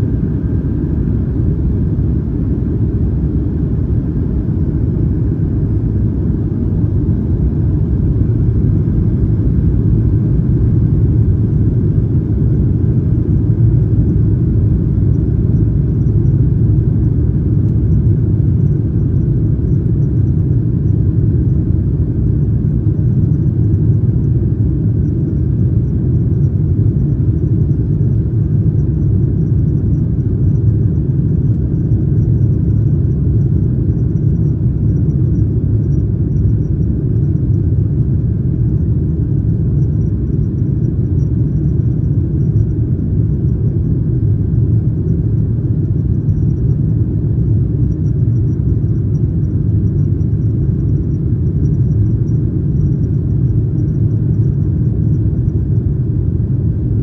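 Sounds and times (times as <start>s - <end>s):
airplane cabin rumble: 0.0s - 57.0s
faint high whine: 0.0s - 57.0s.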